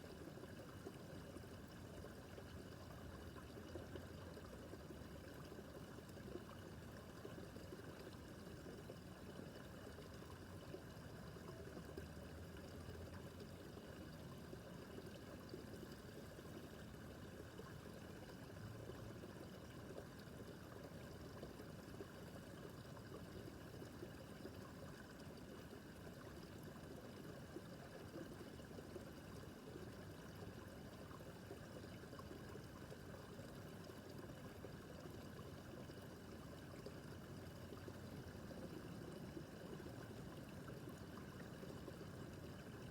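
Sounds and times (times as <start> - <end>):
running water of a brook: 0.0 - 42.9.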